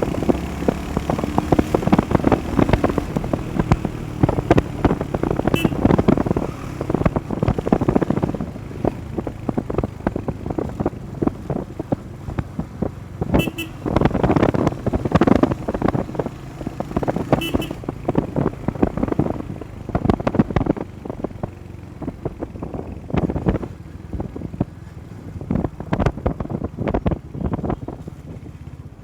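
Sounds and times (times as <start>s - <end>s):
motorcycle engine rumble: 0.0s - 29.0s
wind buffeting microphone: 0.0s - 29.0s.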